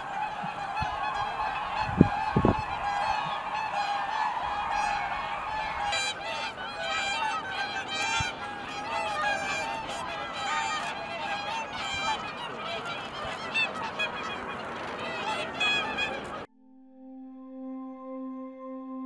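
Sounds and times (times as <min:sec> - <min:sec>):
swans calling: 0:00.0 - 0:16.5.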